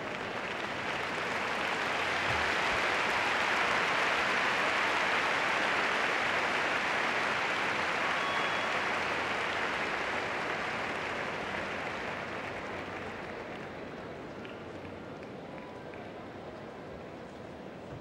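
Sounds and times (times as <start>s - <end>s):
arena crowd applauding: 0.0s - 17.0s.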